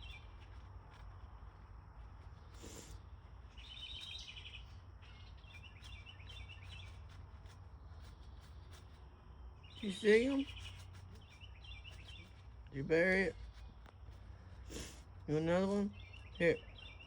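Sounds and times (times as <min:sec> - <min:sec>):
low outdoor rumble: 0:00.0 - 0:17.0
songbirds chirping: 0:00.0 - 0:17.0.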